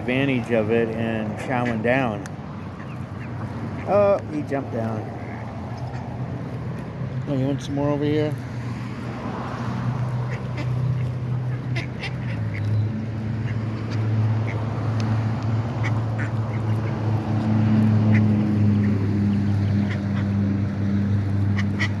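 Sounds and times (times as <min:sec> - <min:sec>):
ducks quacking: 0:00.3 - 0:06.6, 0:09.3 - 0:22.0.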